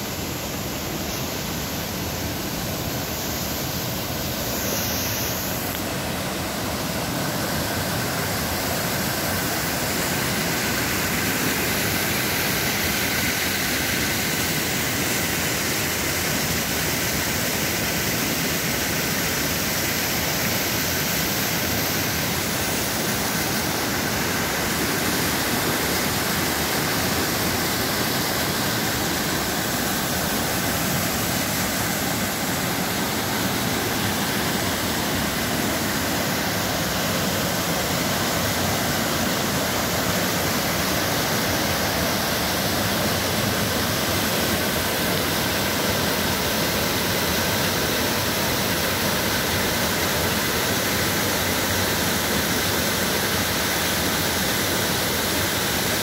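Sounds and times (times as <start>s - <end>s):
waterfall splashing over rocks: 0.0s - 56.0s.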